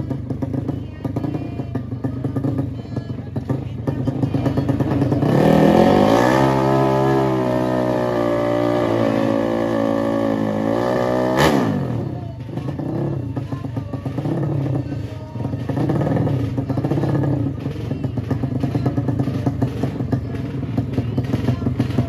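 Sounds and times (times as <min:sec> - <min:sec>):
motorcycle engine at full throttle: 0:00.0 - 0:22.0.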